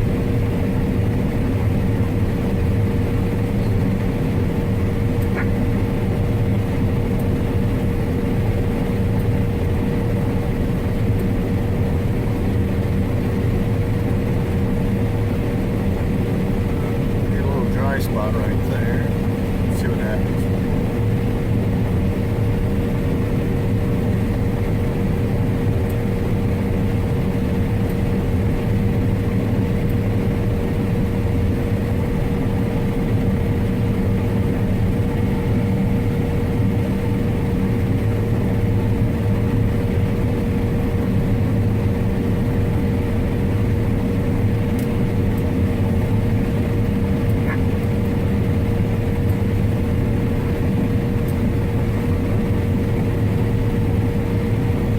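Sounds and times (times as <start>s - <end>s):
combine harvester engine rumble: 0.0s - 54.9s
steady machine whine: 0.0s - 54.9s.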